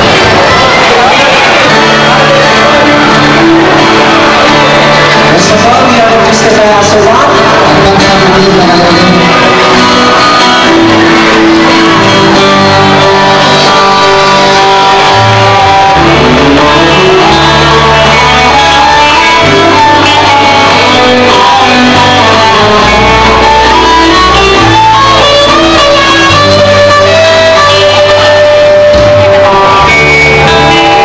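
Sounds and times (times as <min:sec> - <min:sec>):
electric guitar: 0:00.0 - 0:31.0
live rock band playing: 0:00.0 - 0:31.0
low bass notes: 0:00.0 - 0:31.0.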